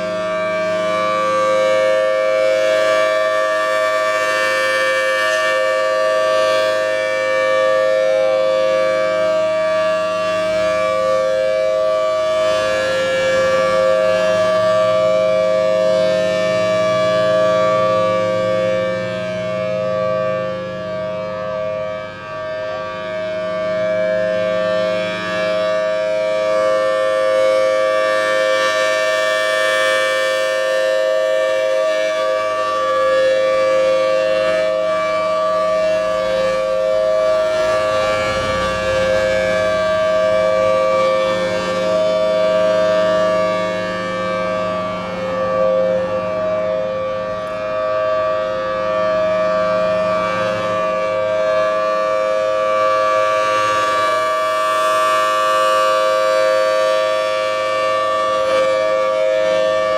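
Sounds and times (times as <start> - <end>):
two-tone warning siren: 0.0 - 59.9.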